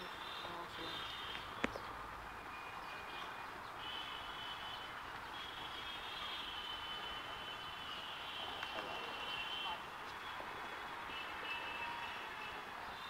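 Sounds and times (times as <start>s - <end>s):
low traffic-like hum: 0.0s - 13.0s.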